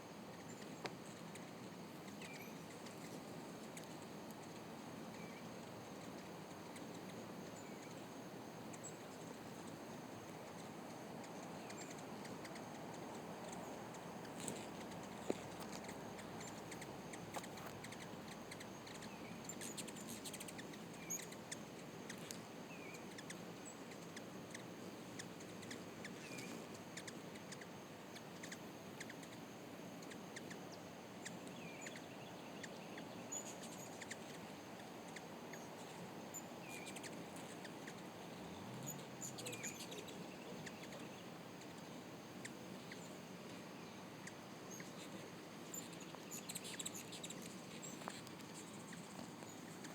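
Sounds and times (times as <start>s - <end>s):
steady background hiss: 0.0s - 49.9s
hummingbirds chirping: 0.3s - 49.9s.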